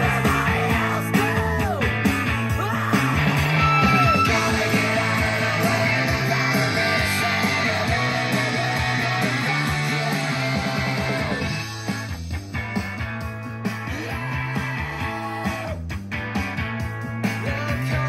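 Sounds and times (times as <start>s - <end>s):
rock music through speakers: 0.0s - 18.0s.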